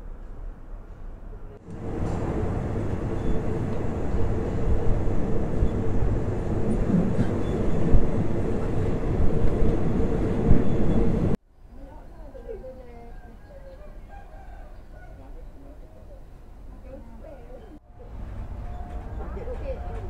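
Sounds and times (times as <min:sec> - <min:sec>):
train rumbling on rails: 0:00.0 - 0:11.4, 0:15.3 - 0:20.0.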